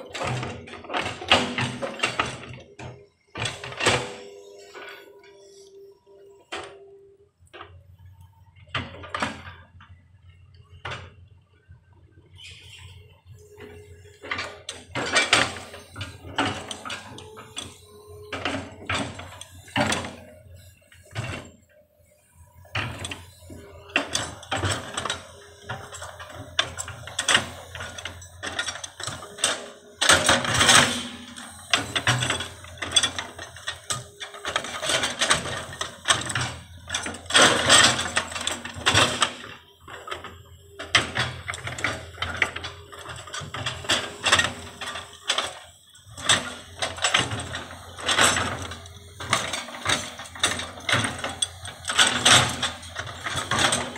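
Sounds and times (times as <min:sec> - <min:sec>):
excavator bucket clanks and scrapes: 0:00.0 - 0:10.0, 0:12.3 - 0:53.9
excavator engine hum: 0:00.0 - 0:53.9.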